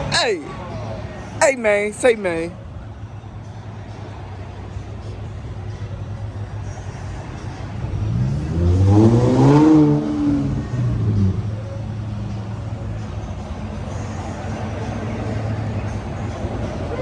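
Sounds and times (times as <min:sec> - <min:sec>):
car engine idling and revving: 0:02.6 - 0:17.0.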